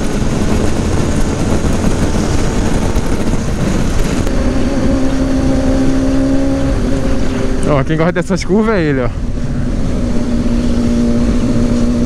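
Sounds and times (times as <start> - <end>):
motorcycle engine running: 0.0 - 7.9, 8.8 - 12.0
wind rush on microphone: 0.0 - 12.0.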